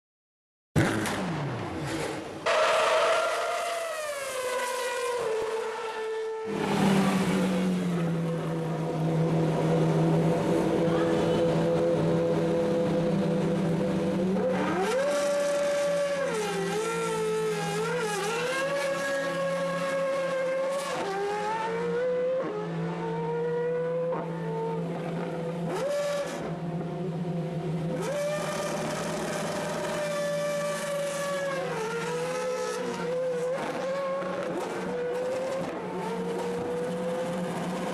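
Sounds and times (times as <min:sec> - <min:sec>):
racing car engines revving: 0:00.8 - 0:37.9.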